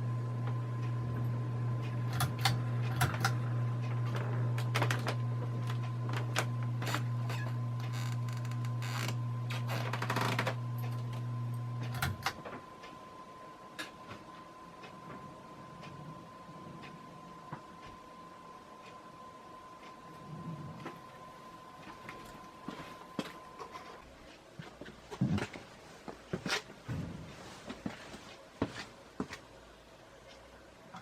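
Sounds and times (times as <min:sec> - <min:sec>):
ceiling fan motor hum: 0:00.0 - 0:31.0
fan ticks and clicks: 0:00.0 - 0:31.0.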